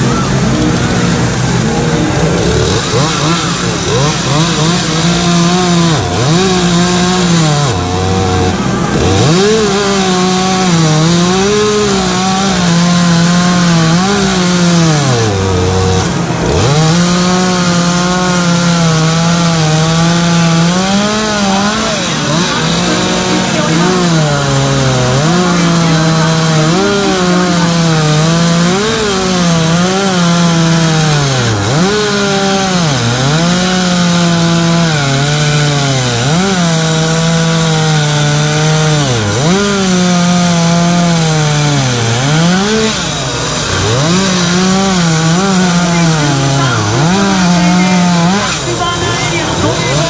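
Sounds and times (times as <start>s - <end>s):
chainsaw cutting wood: 0.0s - 50.0s.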